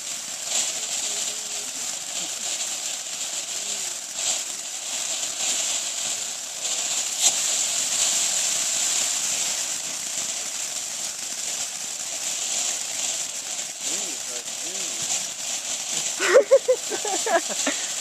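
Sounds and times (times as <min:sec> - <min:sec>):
fountain firework hissing: 0:00.0 - 0:18.0.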